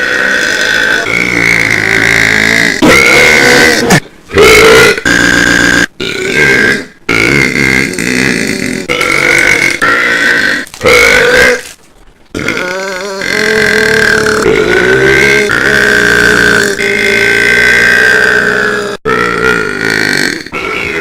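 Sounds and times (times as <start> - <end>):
man belching loudly: 0.0 - 11.6, 12.4 - 21.0.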